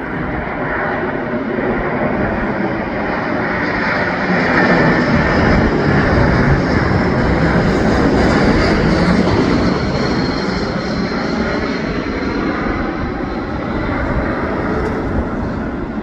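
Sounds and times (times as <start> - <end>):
airliner engine flying past: 0.0 - 16.0.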